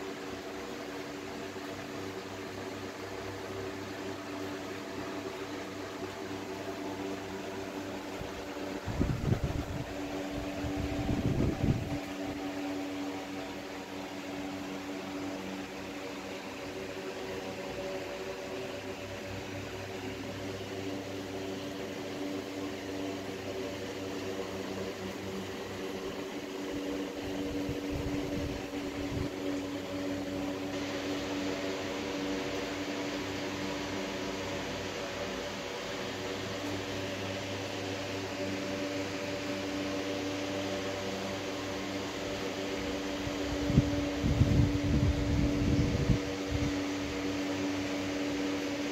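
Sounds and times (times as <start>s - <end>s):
steady machine hum: 0.0s - 48.9s.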